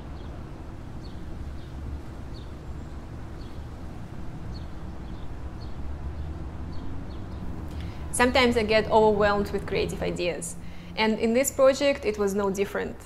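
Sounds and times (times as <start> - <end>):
steady low rumble: 0.0 - 12.3.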